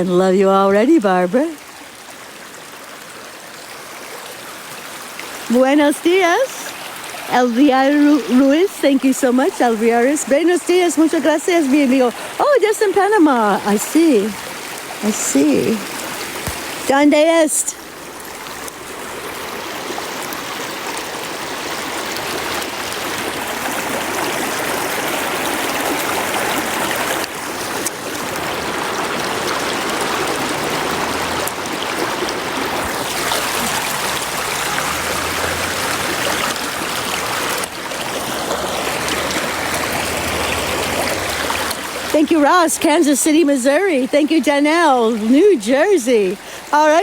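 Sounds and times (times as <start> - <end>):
river water rushing: 1.4 - 47.0.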